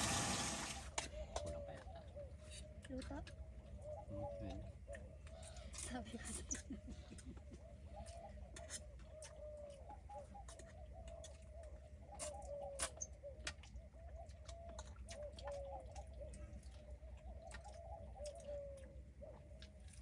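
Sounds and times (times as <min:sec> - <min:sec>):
birds calling faintly: 0:00.0 - 0:20.0.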